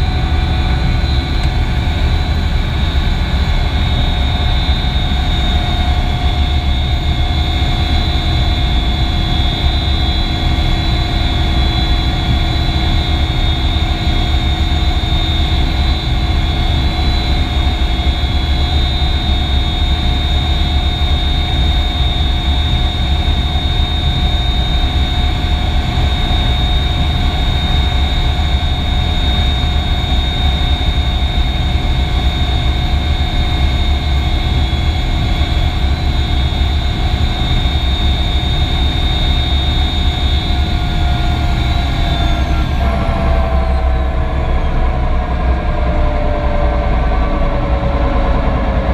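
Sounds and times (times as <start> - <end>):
helicopter turbine engines running: 0.0 - 48.9.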